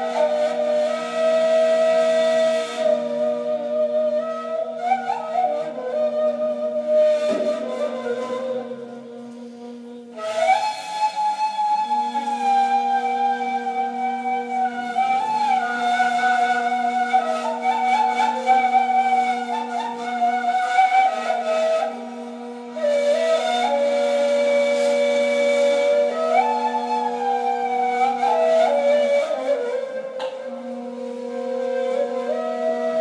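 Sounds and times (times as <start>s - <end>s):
breathy flute melody: 0.0s - 33.0s
flute low drone: 0.0s - 33.0s.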